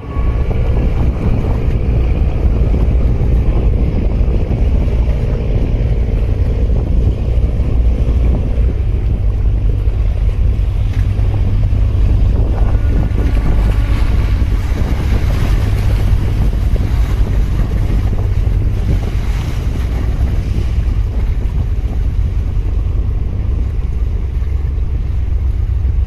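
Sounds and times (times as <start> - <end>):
choppy water: 0.0 - 26.0
wind buffeting microphone: 0.0 - 26.0.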